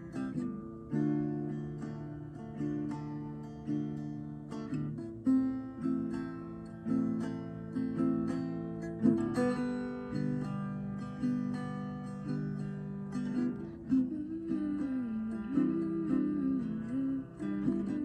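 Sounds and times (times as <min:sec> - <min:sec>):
acoustic guitar playing: 0:00.0 - 0:18.0.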